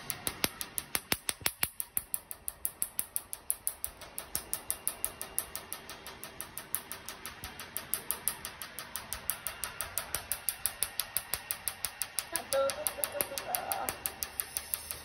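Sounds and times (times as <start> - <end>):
laser snapping clicks: 0.0 - 15.0.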